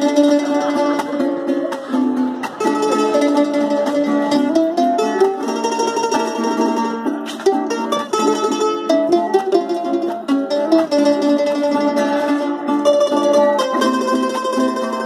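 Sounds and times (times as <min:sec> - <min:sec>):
mandolin picking a melody: 0:00.0 - 0:15.0
strummed cuatro: 0:00.0 - 0:15.0.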